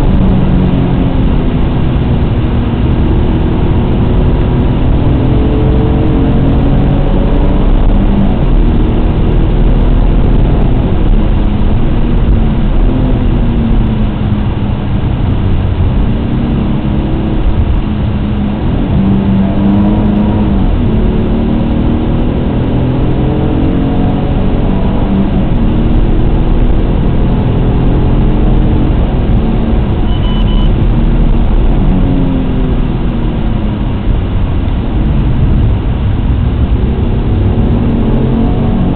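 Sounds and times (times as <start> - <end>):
car engine revving through gears: 0.0 - 38.9.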